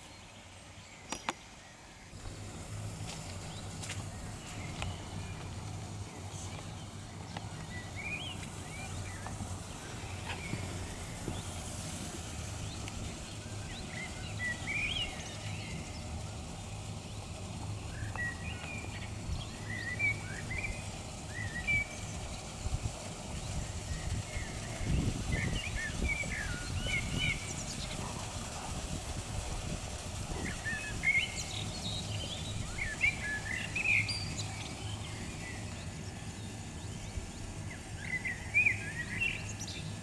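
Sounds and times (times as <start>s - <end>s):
songbirds chirping: 0.0s - 40.0s
low background rumble: 2.2s - 40.0s.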